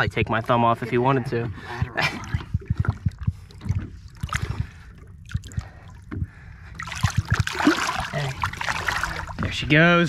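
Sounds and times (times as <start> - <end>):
water lapping at boat: 1.2 - 9.7.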